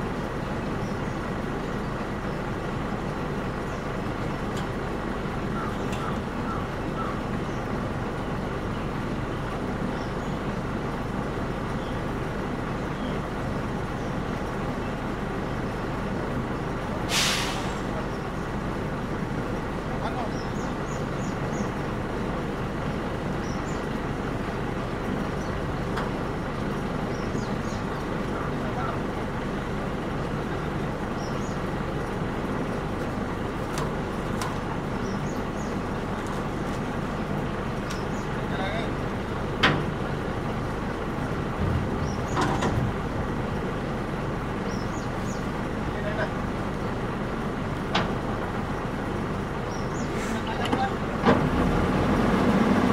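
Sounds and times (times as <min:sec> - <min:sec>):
heavy vehicle engine rumble: 0:00.0 - 0:52.9.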